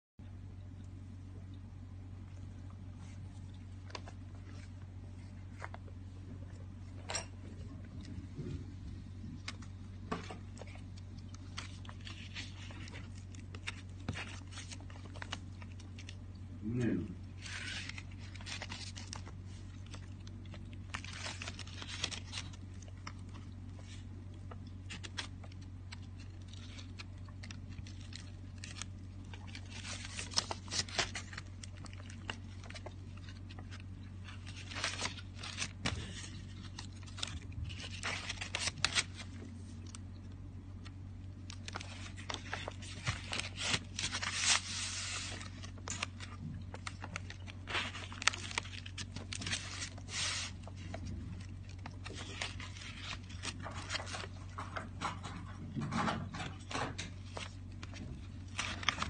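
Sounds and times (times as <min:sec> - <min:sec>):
steady low hum: 0:00.2 - 0:59.0
book pages rustling: 0:02.6 - 0:16.2, 0:17.3 - 0:40.1, 0:40.8 - 0:59.0.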